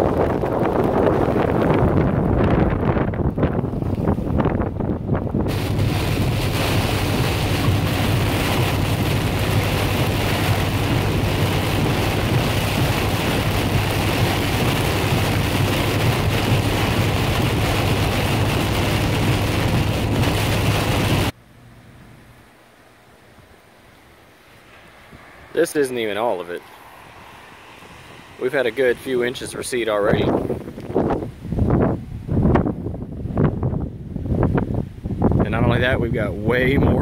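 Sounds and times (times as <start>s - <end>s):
wind blowing across microphone: 0.0s - 21.4s, 24.5s - 37.0s.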